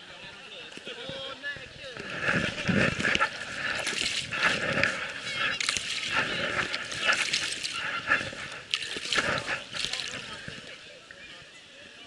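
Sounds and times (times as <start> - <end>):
group of people talking: 0.0 - 12.0.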